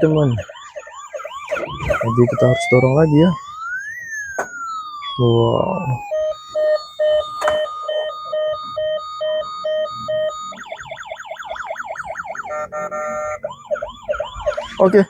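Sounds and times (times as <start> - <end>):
toy siren two-tone beeping: 0.0 - 15.0
toy siren wailing: 0.0 - 15.0.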